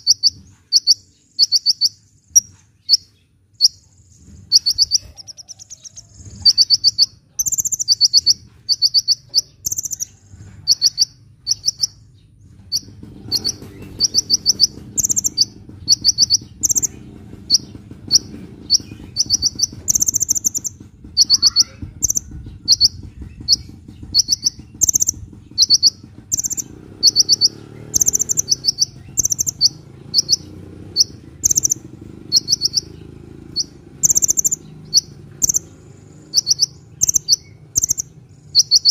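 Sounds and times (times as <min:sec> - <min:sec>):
bird trilling: 0:00.0 - 0:38.9
low background rumble: 0:00.0 - 0:38.9.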